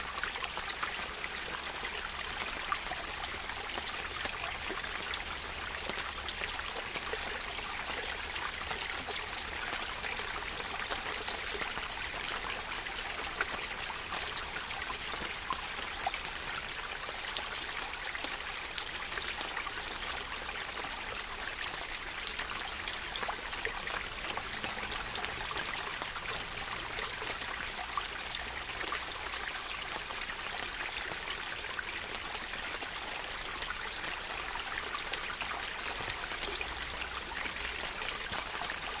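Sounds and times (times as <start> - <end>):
water drips and splashes: 0.0 - 39.0.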